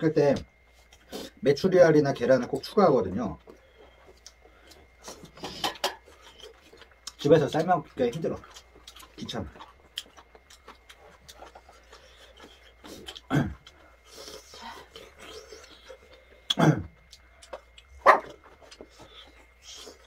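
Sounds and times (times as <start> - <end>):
chewing: 3.3 - 20.0.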